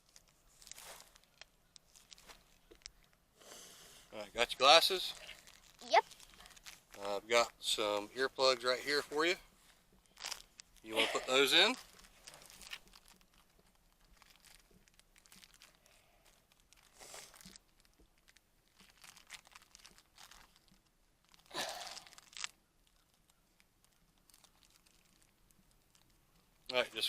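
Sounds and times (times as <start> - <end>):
wrapper crinkling and tearing: 0.0 - 3.2, 4.4 - 7.5, 9.6 - 26.8.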